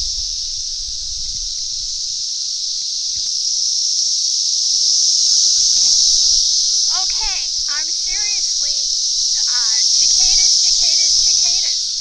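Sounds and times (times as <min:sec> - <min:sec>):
cicadas singing: 0:00.0 - 0:12.0.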